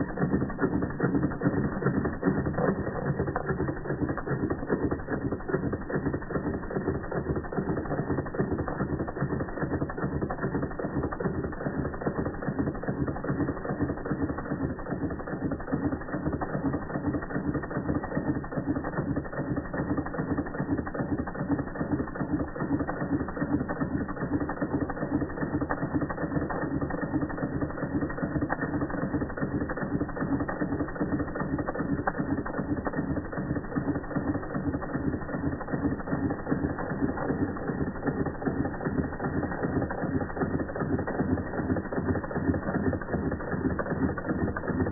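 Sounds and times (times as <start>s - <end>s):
toy steam engine clatter: 0.0s - 44.9s.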